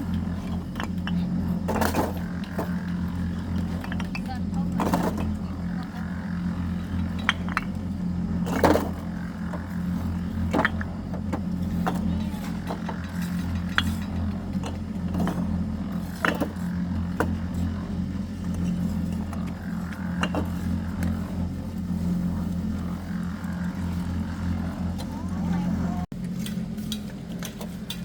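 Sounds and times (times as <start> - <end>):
motor running steadily: 0.0 - 28.0.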